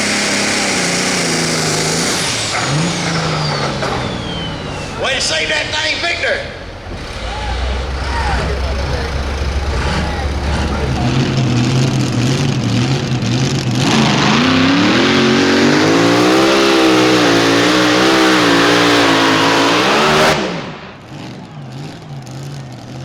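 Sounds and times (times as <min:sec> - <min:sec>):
vehicle engine at full throttle: 0:00.0 - 0:23.0.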